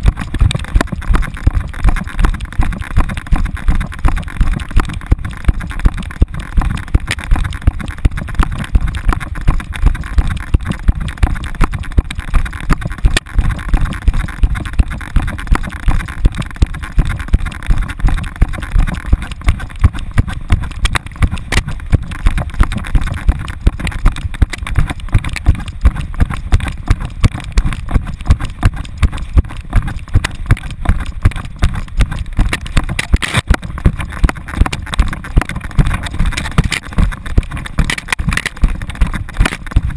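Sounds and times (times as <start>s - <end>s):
camera thumping on running dog: 0.0s - 39.9s
wind noise: 0.0s - 39.9s.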